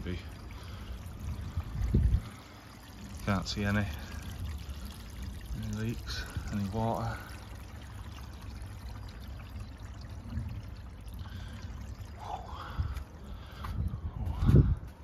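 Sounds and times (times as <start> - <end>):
water running through pipes: 0.0 - 15.0.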